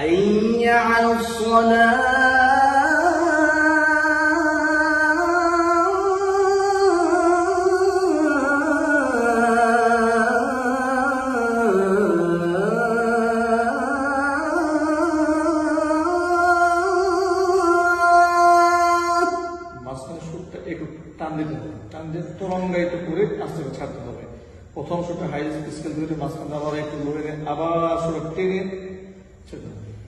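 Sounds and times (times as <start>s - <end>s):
man chanting: 0.0s - 30.0s.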